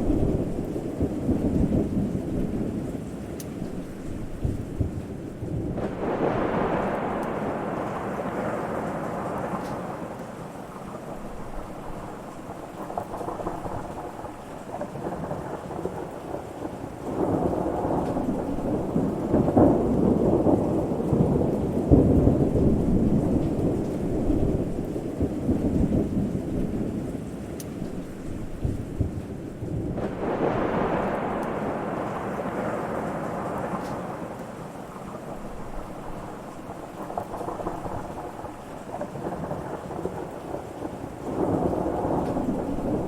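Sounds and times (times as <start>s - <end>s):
rain hissing: 0.0s - 43.0s
thunder rumbling: 0.0s - 43.0s.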